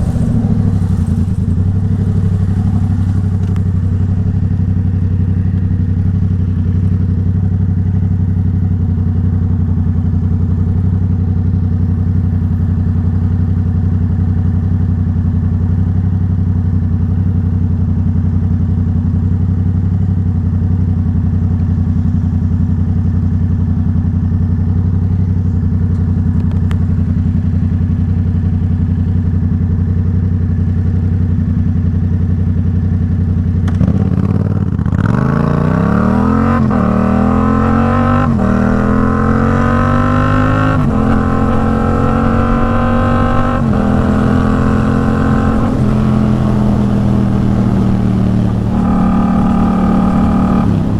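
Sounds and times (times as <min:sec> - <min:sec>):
motorcycle engine running steadily: 0:00.0 - 0:50.9.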